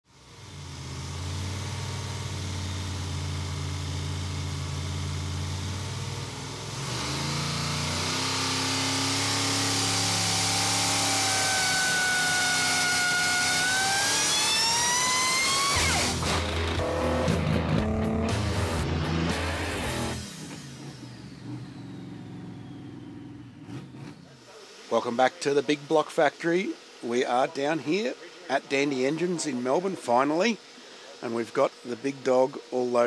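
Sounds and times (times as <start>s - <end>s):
engine running on a dyno: 0.0s - 33.0s
high supercharger whine: 0.1s - 33.0s.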